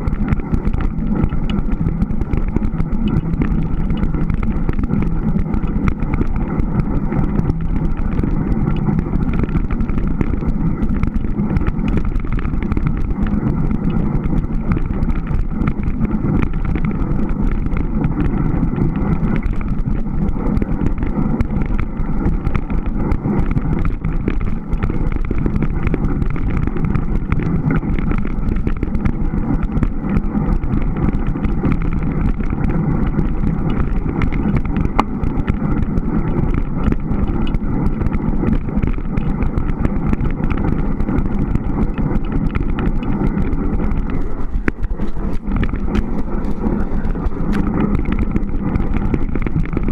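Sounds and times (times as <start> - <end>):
low rumble and rush: 0.0 - 49.9.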